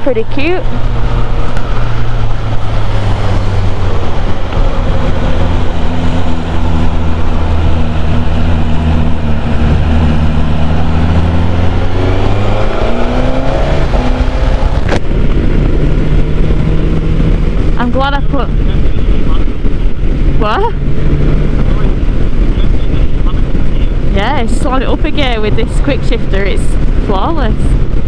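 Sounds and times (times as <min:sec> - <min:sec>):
motorcycle engine cruising: 0:00.0 - 0:28.0
wind and road noise: 0:00.0 - 0:28.0.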